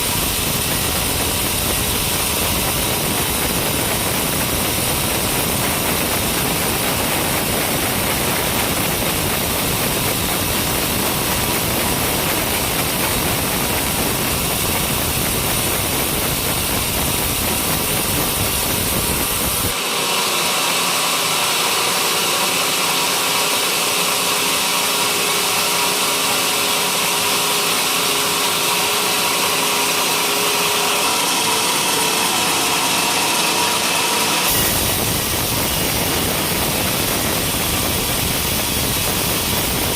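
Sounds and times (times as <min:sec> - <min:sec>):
hissing whine: 0:00.0 - 0:21.2, 0:22.8 - 0:39.9
saw cutting timber: 0:00.0 - 0:39.9
sawmill machine drone: 0:00.0 - 0:39.9.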